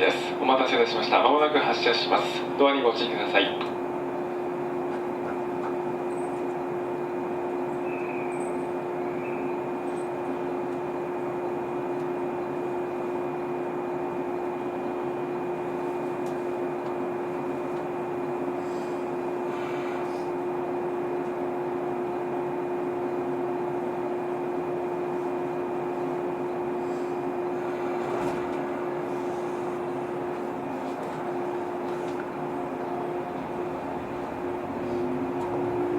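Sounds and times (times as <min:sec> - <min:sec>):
train machinery hum: 0:00.0 - 0:35.9.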